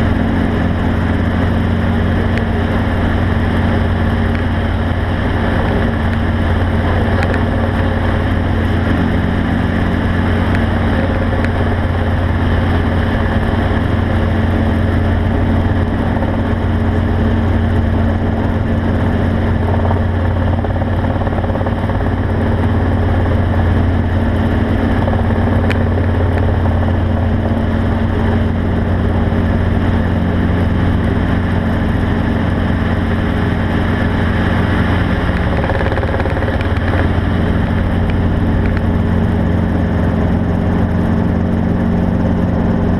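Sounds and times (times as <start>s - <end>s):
vehicle engine droning: 0.0s - 42.9s.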